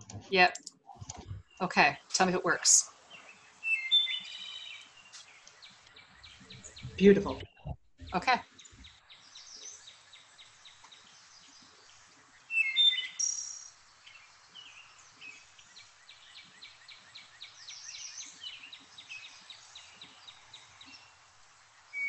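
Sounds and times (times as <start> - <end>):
recorded thrush song: 0.0 - 22.0
birds chirping quickly: 2.7 - 21.2.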